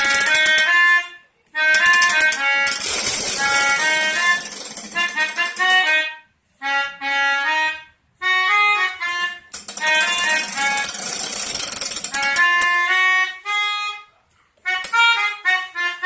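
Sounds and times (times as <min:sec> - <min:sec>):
melodica short reedy notes: 0:00.0 - 0:16.0.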